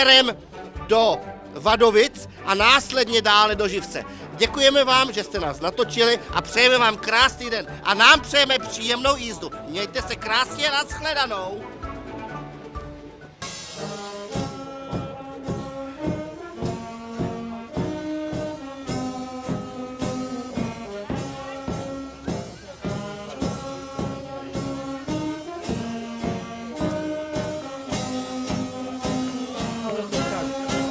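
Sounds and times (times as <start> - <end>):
brass band playing: 0.0 - 30.9
bass drum beat: 0.7 - 13.1, 13.8 - 30.9.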